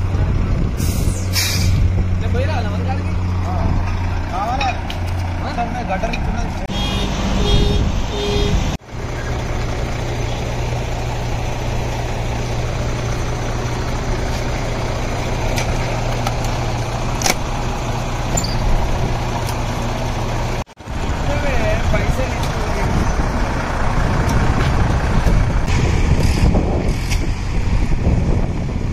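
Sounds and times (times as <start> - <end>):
heavy vehicle engine running: 0.0 - 28.9.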